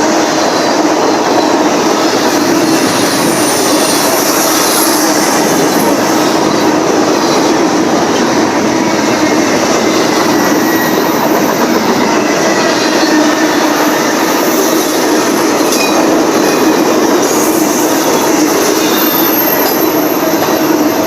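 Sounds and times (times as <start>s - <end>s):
freight train wheels rumbling: 0.0s - 21.0s
high wheel squeal: 0.0s - 21.0s.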